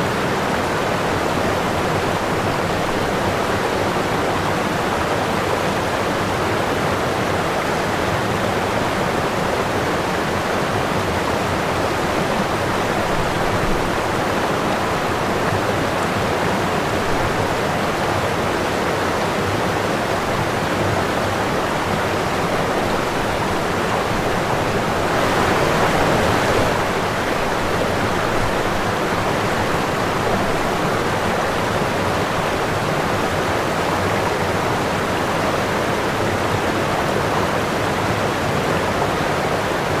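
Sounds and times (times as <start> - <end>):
running water: 0.0 - 40.0.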